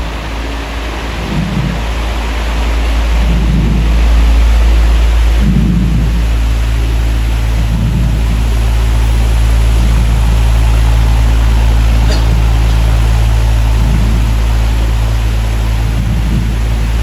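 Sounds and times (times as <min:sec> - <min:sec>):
low rumble with hum and hiss: 0:00.0 - 0:17.0.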